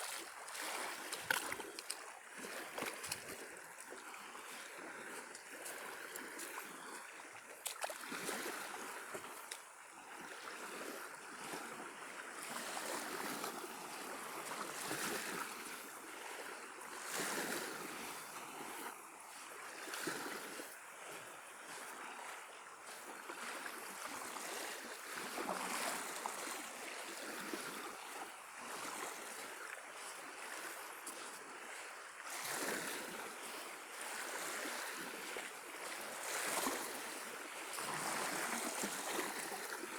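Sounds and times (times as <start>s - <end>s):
small waves washing onto shore: 0.0s - 39.9s
wind: 0.0s - 39.9s.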